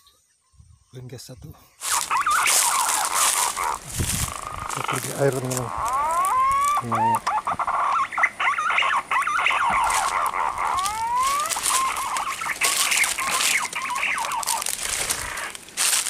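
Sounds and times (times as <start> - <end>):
birds calling with wavering whistles: 0.0 - 16.0.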